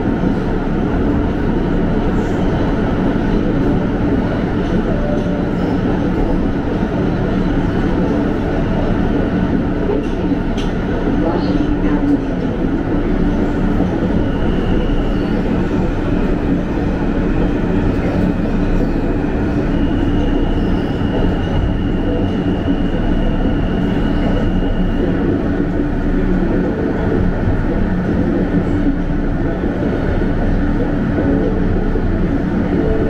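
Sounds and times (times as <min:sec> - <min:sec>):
subway wheels rumbling on rail: 0:00.0 - 0:33.0.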